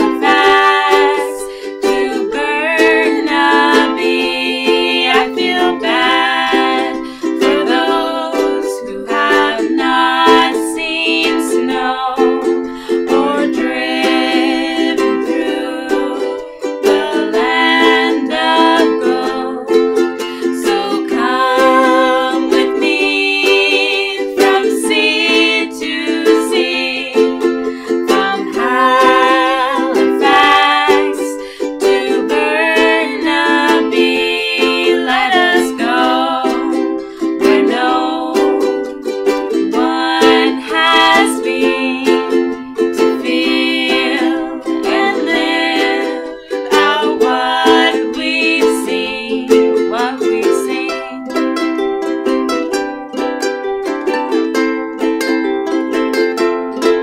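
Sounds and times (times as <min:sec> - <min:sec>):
women singing: 0:00.0 - 0:51.6
ukuleles strummed: 0:00.0 - 0:57.0.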